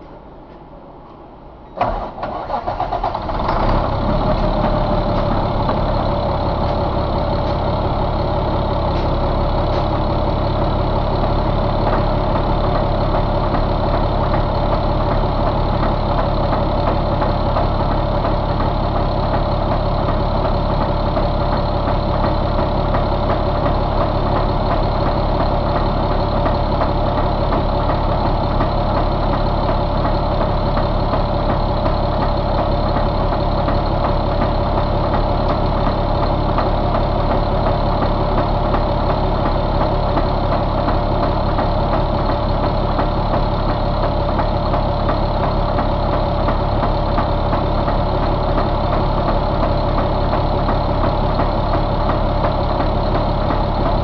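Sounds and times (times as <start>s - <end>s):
diesel engine starting and idling: 0.0s - 54.0s.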